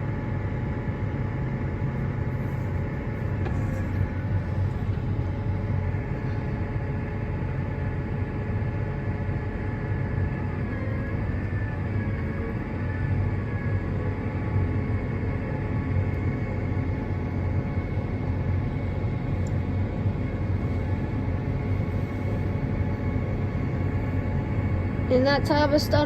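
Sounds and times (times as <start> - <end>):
deep engine hum: 0.0 - 26.0
steady whining tones: 0.0 - 26.0.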